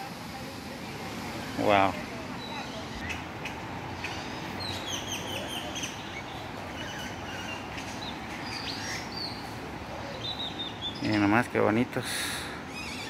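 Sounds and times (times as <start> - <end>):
outdoor background noise: 0.0 - 13.0
small birds chirping: 1.2 - 13.0.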